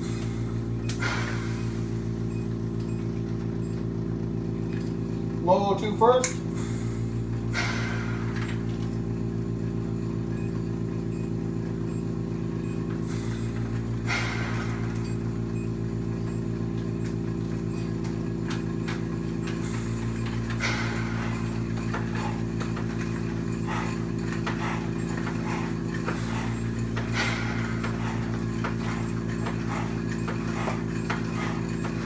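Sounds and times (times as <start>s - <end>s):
machine humming with fast pulsing: 0.0s - 32.0s.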